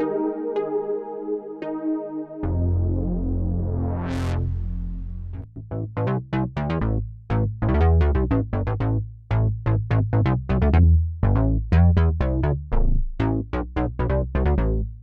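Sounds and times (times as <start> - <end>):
synthesizer plucked notes: 0.0 - 14.8
held low synth bass: 0.0 - 15.0.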